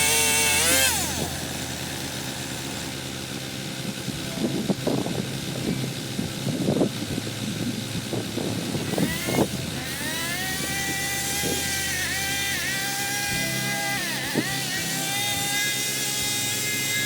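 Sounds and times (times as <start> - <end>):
high-speed saw motor revving: 0.0 - 17.0
low engine running with knocks: 0.0 - 17.0.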